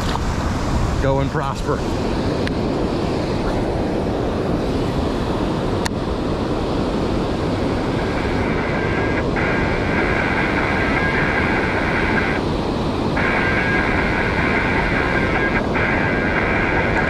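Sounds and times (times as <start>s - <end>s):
river water rushing: 1.8s - 17.0s.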